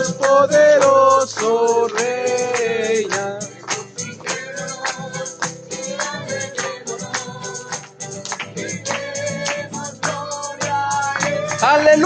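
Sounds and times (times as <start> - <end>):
group singing: 0.0 - 12.0
tambourine: 0.0 - 12.0.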